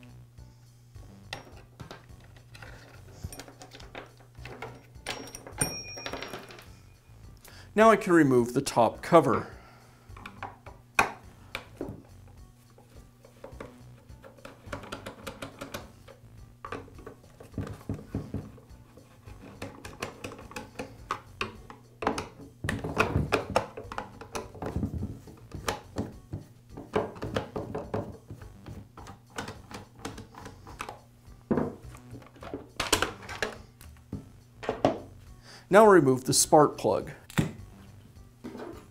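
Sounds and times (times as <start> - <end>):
soft background music: 0.0 - 38.9.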